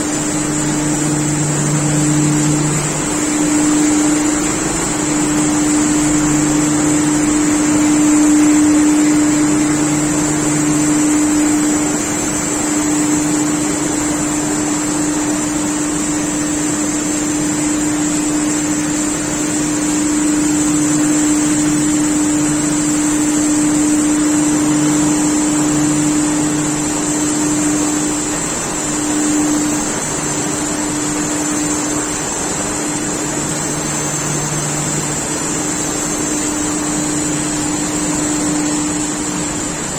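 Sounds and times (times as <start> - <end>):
lower machine tone: 0.0 - 39.9
machine humming with high whine: 0.0 - 39.9.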